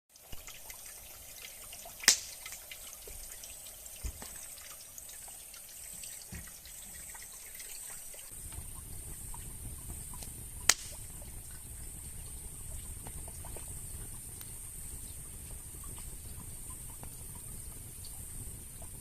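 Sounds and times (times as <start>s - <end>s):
campfire crackling and popping: 0.2s - 4.8s, 8.3s - 19.0s.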